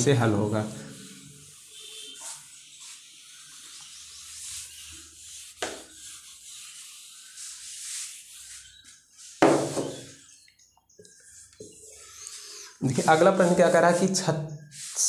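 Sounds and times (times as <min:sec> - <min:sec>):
duster rubbing on whiteboard: 0:00.0 - 0:10.4, 0:11.2 - 0:15.0.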